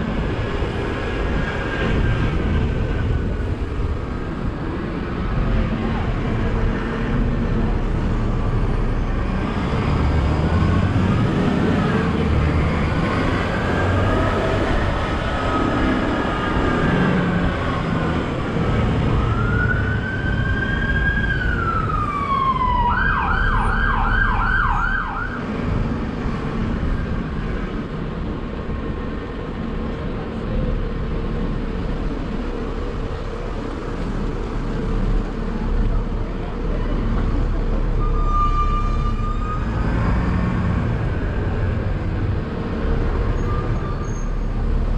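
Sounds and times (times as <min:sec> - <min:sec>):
bus engine and road noise: 0:00.0 - 0:44.9.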